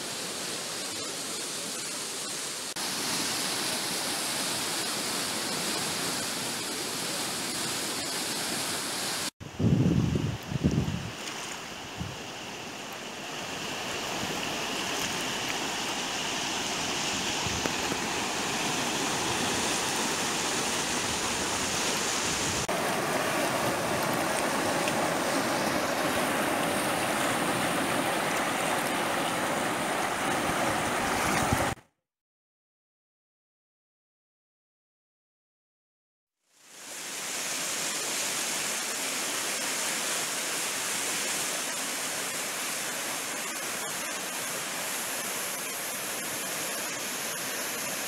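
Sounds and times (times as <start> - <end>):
white-water rapids: 0.0 - 9.4, 11.2 - 31.8, 36.6 - 48.0
river rushing: 0.0 - 31.8, 36.6 - 48.0.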